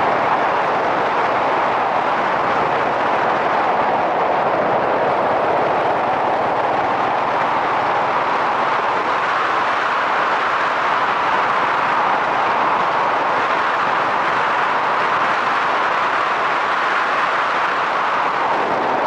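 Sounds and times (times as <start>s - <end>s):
wind noise: 0.0s - 19.0s.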